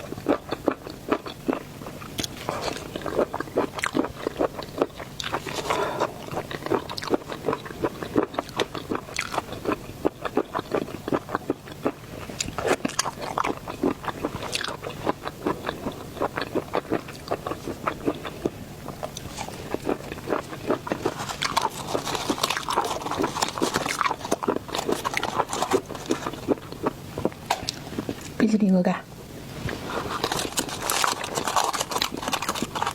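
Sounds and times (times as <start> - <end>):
crunchy chewing: 0.0 - 28.4, 29.5 - 32.9.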